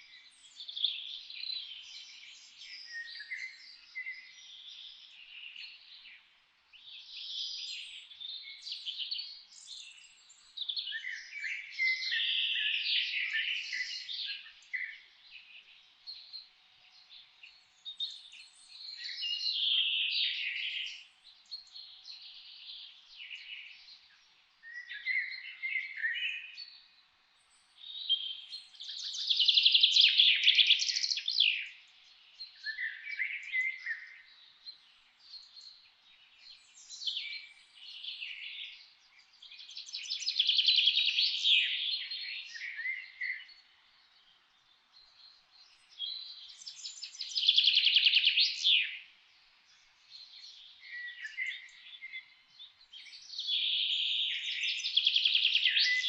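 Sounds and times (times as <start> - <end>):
soft bird chirps and calls: 0.0 - 56.0
songbird trilling song: 0.0 - 56.0.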